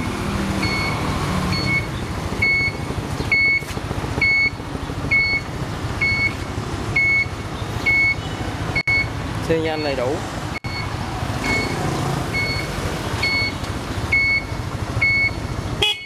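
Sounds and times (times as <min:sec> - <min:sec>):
motorcycle engine idling: 0:00.0 - 0:10.0, 0:12.3 - 0:16.0.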